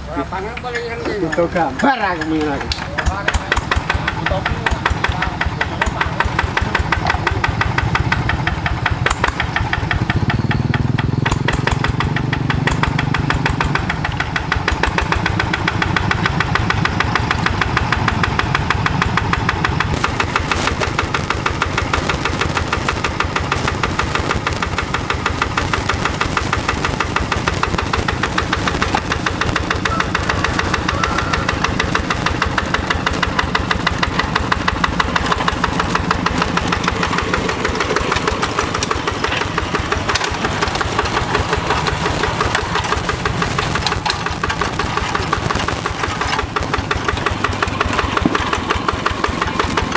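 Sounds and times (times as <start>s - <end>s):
diesel hand tractor engine knocking: 0.0s - 49.9s.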